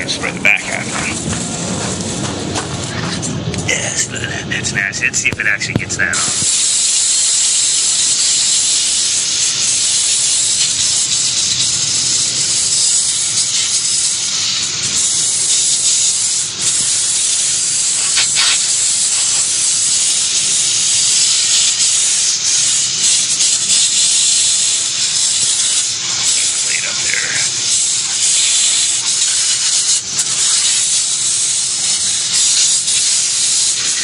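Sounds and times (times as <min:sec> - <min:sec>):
hose spraying water on metal: 0:00.0 - 0:34.0.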